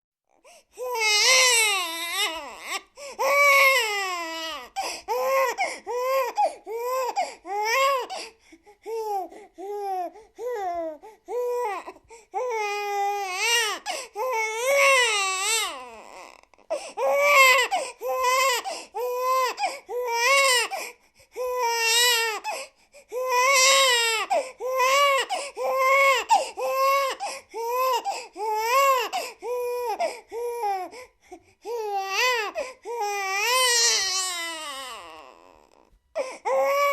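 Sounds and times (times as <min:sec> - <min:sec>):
baby crying: 0:00.8 - 0:31.0, 0:31.6 - 0:36.9.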